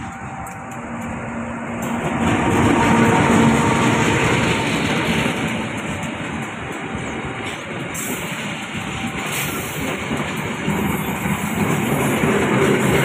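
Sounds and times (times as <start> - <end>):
train passing with heavy rumble: 0.0 - 13.0.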